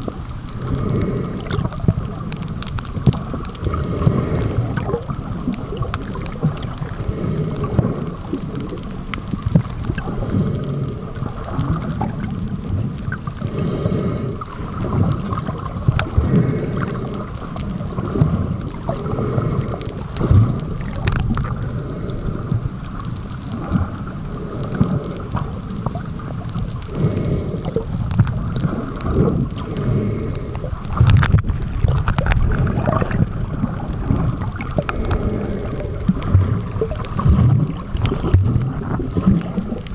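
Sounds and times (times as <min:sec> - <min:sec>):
underwater sloshing and gurgling: 0:00.0 - 0:39.9.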